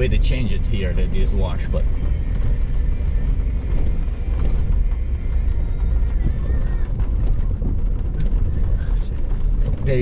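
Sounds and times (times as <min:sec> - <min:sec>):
truck engine and tyres rumbling: 0:00.0 - 0:10.0.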